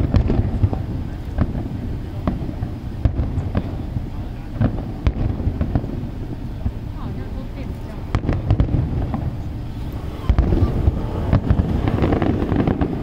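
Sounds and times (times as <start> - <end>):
continuous low rumble: 0.0 - 13.0
fireworks bangs: 0.0 - 13.0.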